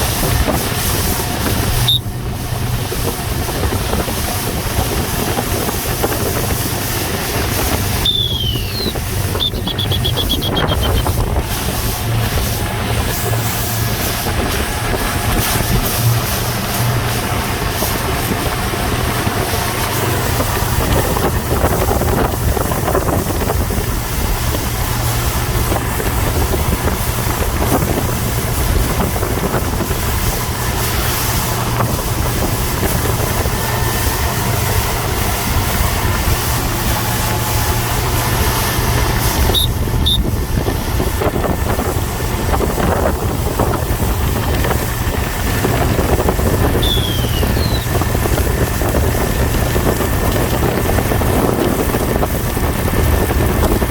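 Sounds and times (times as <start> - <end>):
motorboat engine humming: 0.0 - 53.9
wind on microphone: 0.0 - 53.9.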